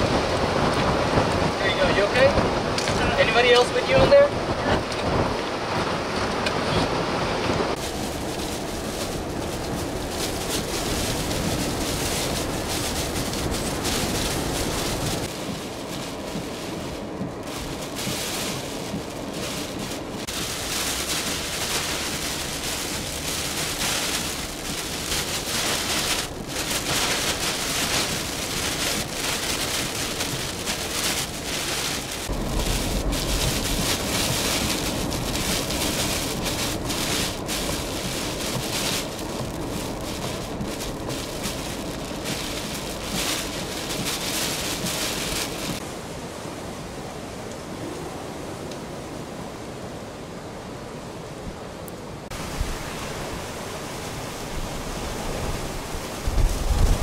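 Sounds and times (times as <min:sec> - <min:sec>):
heavy rain beating on vehicle: 0:00.0 - 0:45.9, 0:52.2 - 0:57.0
gusting wind: 0:00.0 - 0:57.0.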